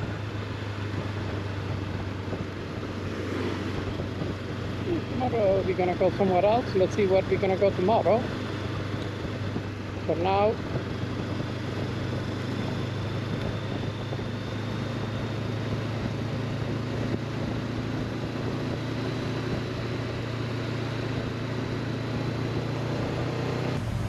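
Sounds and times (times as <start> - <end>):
motorcycle engine cruising: 0.0 - 24.0
wind and road noise: 0.0 - 24.0.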